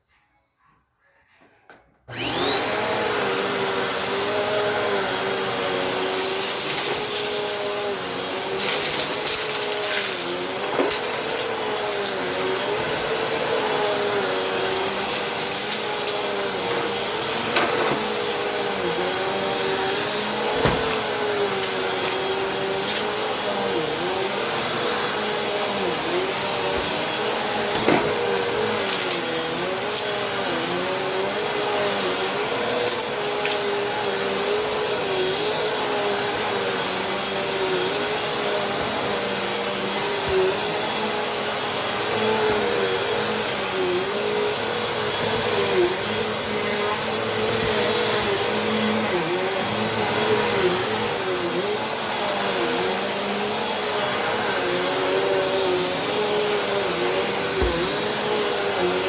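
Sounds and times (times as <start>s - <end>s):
vacuum cleaner whine: 2.0s - 59.0s.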